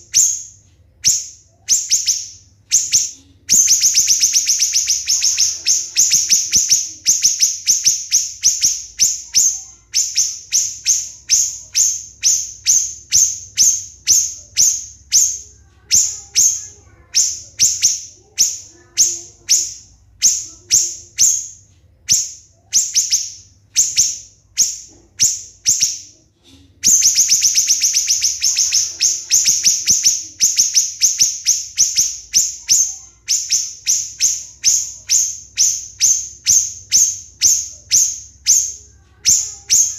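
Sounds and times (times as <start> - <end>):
bird singing high repeated notes: 0.0 - 26.2, 26.8 - 39.9.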